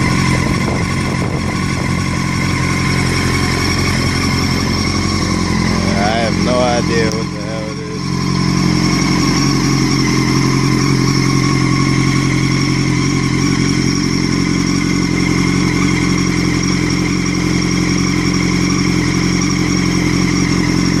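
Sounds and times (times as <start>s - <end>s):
high mechanical whine: 0.0s - 21.0s
motorcycle engine running: 0.0s - 21.0s.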